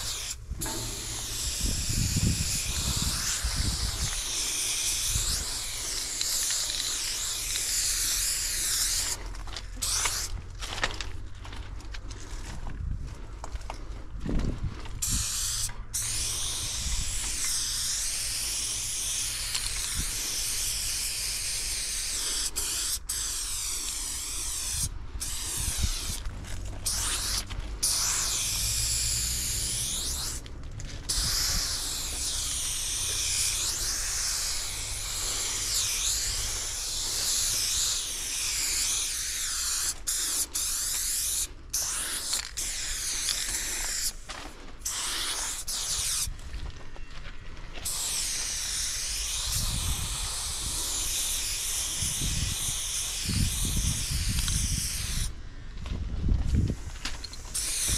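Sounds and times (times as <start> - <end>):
aerosol spray can hissing: 0.0 - 10.4, 15.0 - 30.5, 31.1 - 46.3, 47.8 - 55.4, 56.7 - 57.9.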